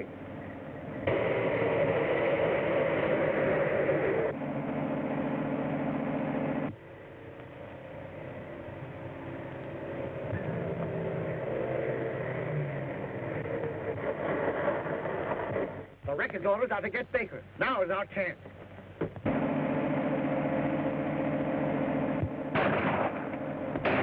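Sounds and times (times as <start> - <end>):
car engine running at speed: 0.0 - 16.4, 18.5 - 24.0.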